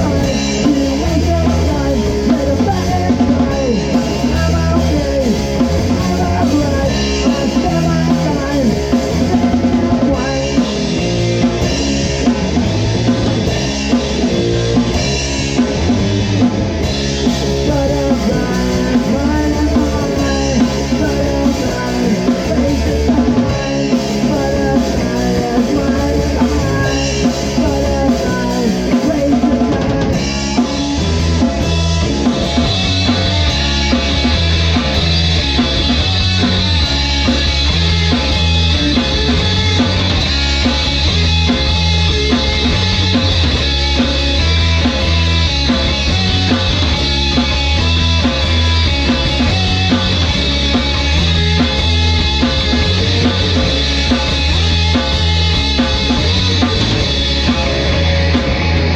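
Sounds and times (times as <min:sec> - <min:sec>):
rock band music: 0:00.0 - 0:58.9.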